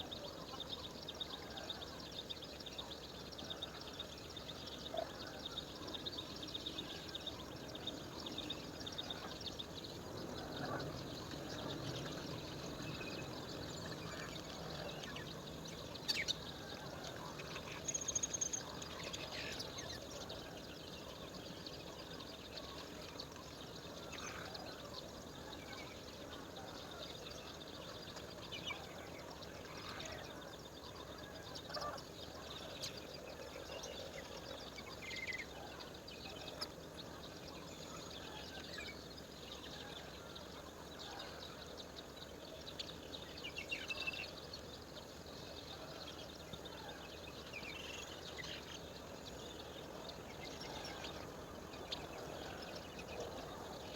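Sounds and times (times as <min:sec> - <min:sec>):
bird calls and chirps: 0:00.0 - 0:53.9
steady background hiss: 0:00.0 - 0:53.9.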